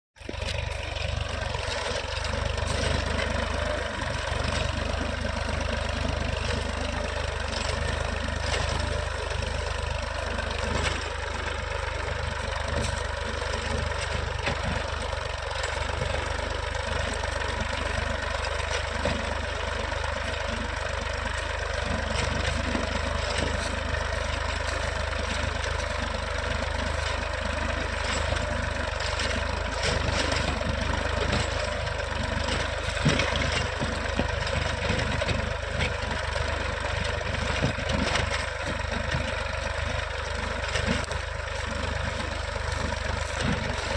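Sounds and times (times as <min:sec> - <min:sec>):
tractor engine running: 0:00.2 - 0:43.9.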